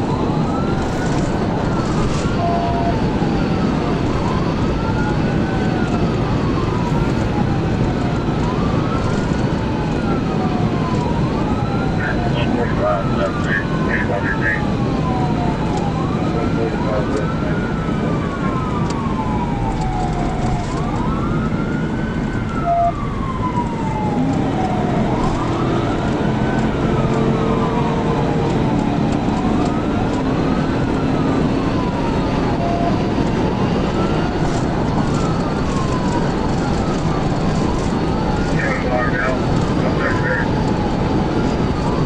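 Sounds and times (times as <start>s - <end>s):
police siren wailing: 0.0s - 42.0s
road and wind noise: 0.0s - 42.0s.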